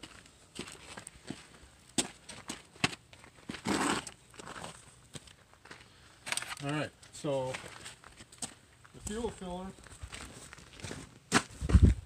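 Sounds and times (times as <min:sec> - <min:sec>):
footsteps on dirt and gravel: 0:00.0 - 0:06.0, 0:06.6 - 0:12.0.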